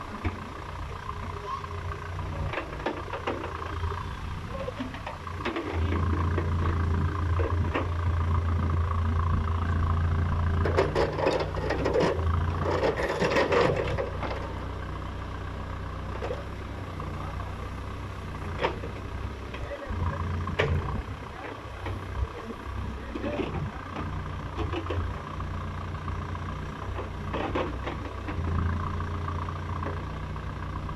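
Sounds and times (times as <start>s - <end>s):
backhoe diesel engine running: 0.0s - 30.9s.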